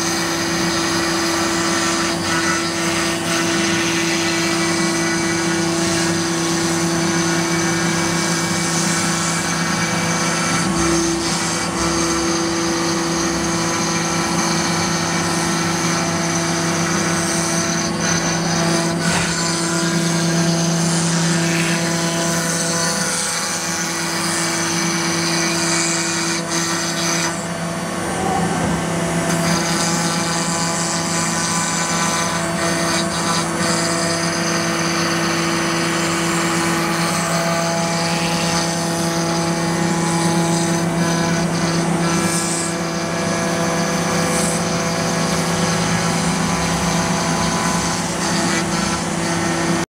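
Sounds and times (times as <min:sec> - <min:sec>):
router bit cutting wood: 0:00.0 - 0:49.9
router spindle humming: 0:00.0 - 0:49.9.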